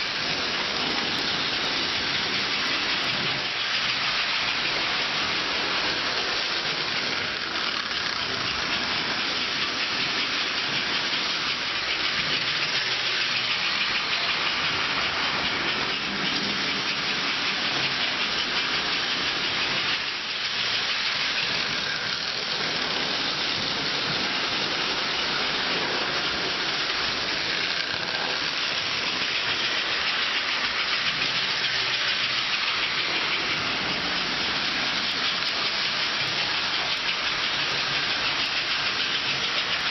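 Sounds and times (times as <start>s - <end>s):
toy trains whirring on track: 0.0s - 39.9s.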